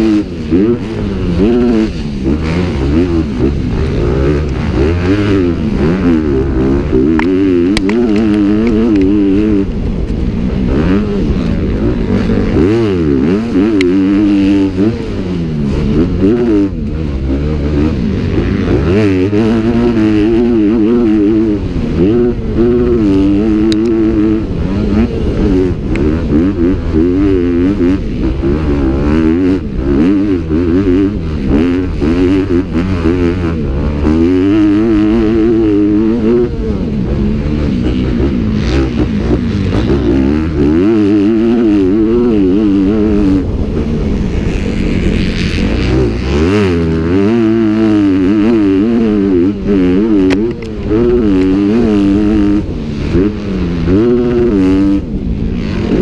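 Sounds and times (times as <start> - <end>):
motorbike engines revving: 0.0 - 56.0.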